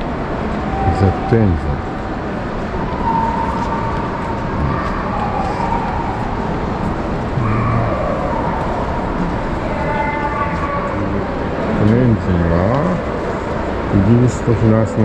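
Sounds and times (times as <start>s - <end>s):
busy hall background noise: 0.0s - 15.0s
faint distant voices: 0.6s - 15.0s.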